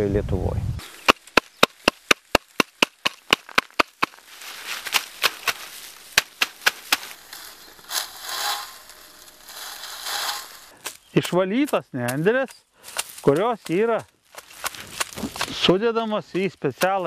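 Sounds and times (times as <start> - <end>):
dry reeds rustling: 0.8 - 17.0
wooden beater knocking reeds: 1.0 - 15.7, 16.3 - 17.0.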